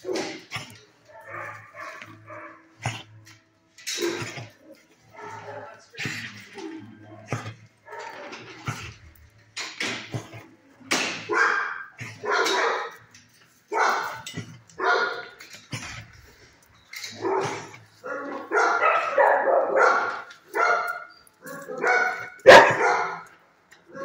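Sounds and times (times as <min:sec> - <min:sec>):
dog barking: 0:00.0 - 0:09.1, 0:11.0 - 0:13.1, 0:13.7 - 0:16.4, 0:17.1 - 0:24.0.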